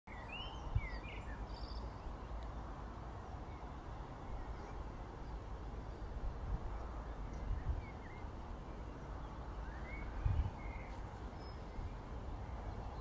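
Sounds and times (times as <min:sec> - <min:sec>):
wind rumbling on microphone: 0:00.1 - 0:13.0.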